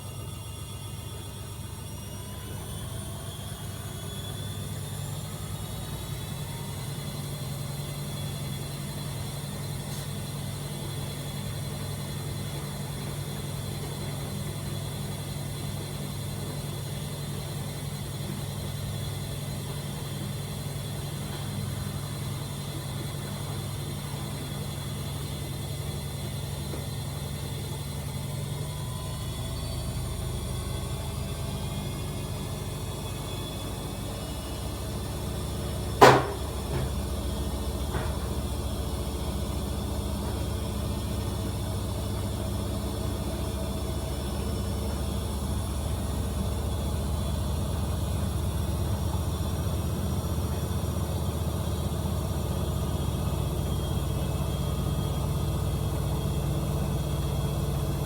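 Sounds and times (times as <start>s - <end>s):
washing machine drum spinning: 2.0s - 58.0s.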